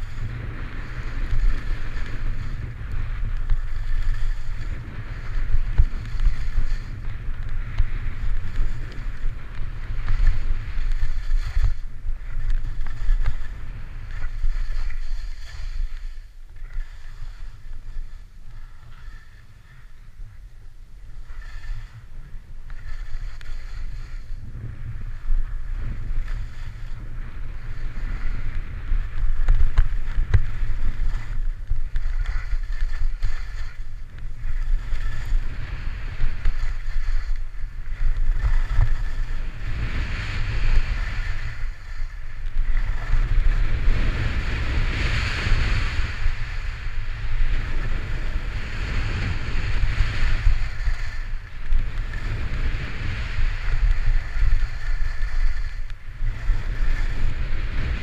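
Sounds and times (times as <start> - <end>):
skis scraping on packed snow: 0.0 - 19.9, 21.1 - 58.0
wind buffeting microphone: 0.0 - 58.0.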